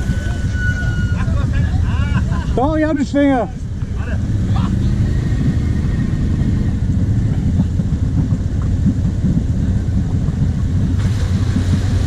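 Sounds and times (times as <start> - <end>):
quad bike engines idling: 0.0 - 12.0.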